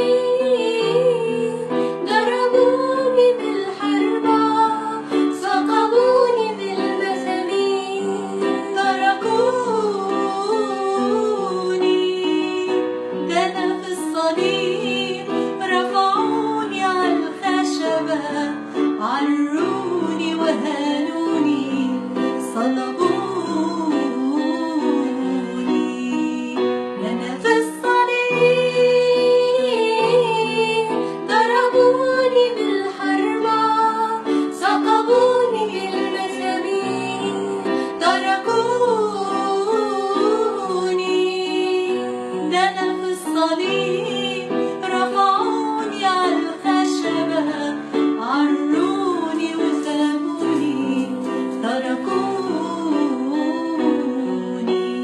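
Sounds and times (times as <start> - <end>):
solo voice singing a hymn: 0.0 - 55.0.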